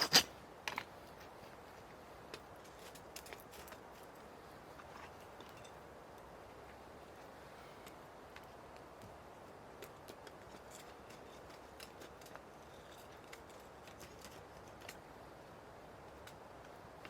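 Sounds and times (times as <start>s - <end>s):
wood fire crackling: 2.2s - 17.0s.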